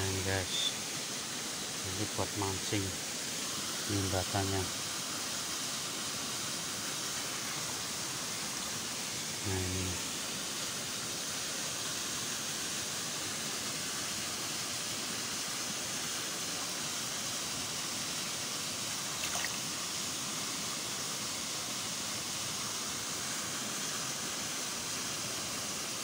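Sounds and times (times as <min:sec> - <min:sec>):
flowing water hiss: 0:00.0 - 0:26.0.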